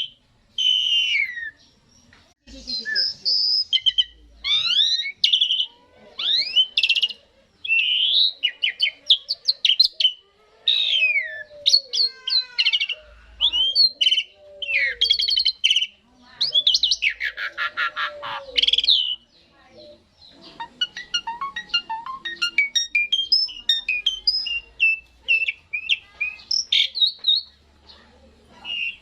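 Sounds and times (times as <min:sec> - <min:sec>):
starling singing: 0:00.0 - 0:29.0.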